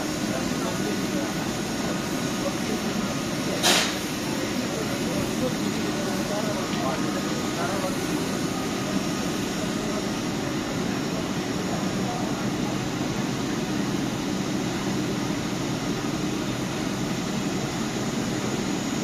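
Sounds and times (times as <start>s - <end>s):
electric trains humming: 0.0s - 19.0s
murmur of voices: 0.0s - 19.0s.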